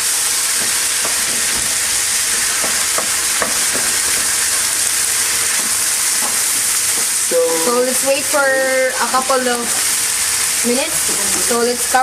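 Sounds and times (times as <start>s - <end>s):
vegetables sizzling in a pan: 0.0s - 12.0s
utensil stirring ticks: 0.5s - 12.0s.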